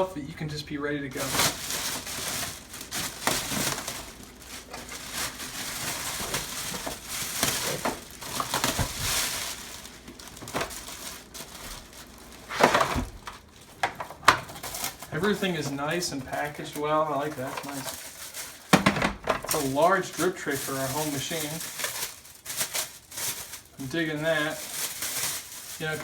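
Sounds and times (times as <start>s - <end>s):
packing materials rustling: 1.1s - 26.0s.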